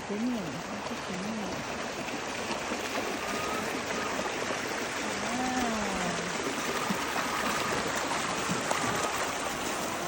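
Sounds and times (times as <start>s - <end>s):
rainwater rushing: 0.0s - 10.0s.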